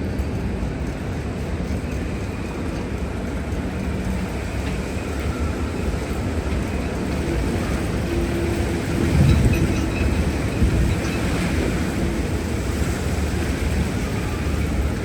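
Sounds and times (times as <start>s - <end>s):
wind buffeting microphone: 0.7s - 15.0s
rough sea rumbling: 2.0s - 15.0s.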